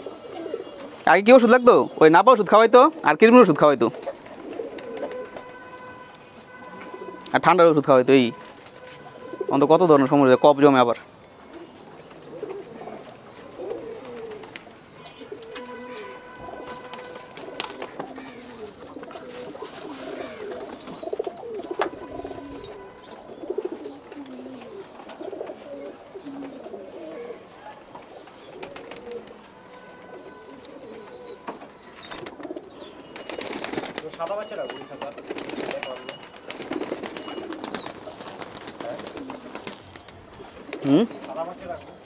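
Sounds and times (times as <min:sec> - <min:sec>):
pigeons cooing: 0:00.0 - 0:42.0.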